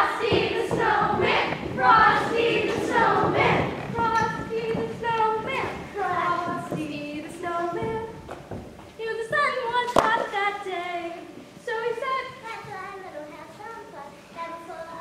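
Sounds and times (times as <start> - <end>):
young voices singing: 0.0 - 8.4, 9.0 - 15.0.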